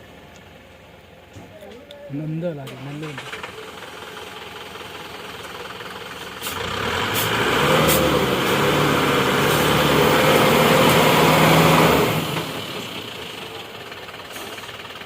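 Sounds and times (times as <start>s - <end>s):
lorry diesel engine working hard: 0.0s - 15.0s.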